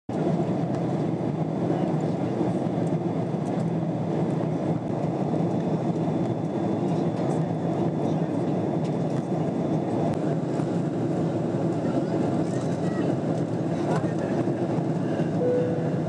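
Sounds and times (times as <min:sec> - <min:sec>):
jet engines and airflow rumble: 0:00.1 - 0:16.0.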